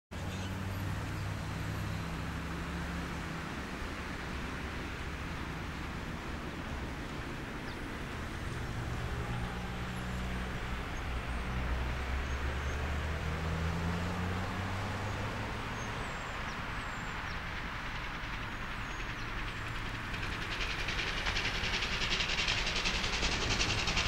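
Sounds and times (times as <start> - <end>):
distant steam locomotive exhaust: 0.5 - 24.0.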